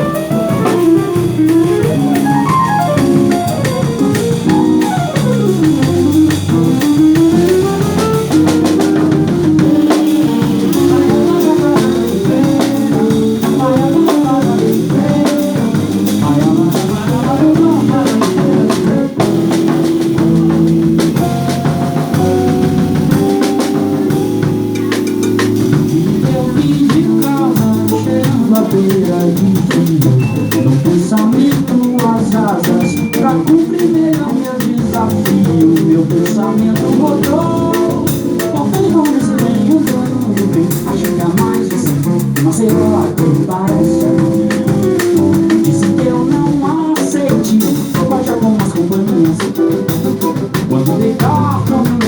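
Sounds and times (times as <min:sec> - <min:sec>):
drum kit beat: 0:00.0 - 0:52.0
sliding melody line: 0:00.0 - 0:52.0.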